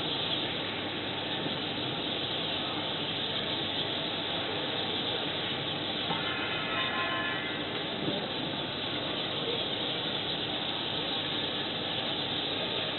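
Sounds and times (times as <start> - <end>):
outdoor ambient hiss: 0.0 - 12.9.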